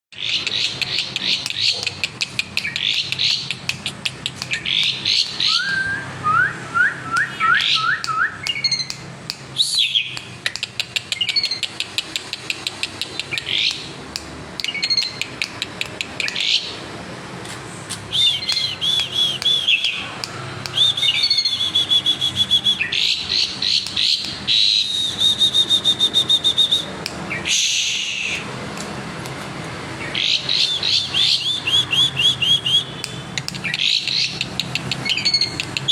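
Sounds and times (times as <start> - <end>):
starling singing: 0.2 - 16.9, 18.0 - 35.9.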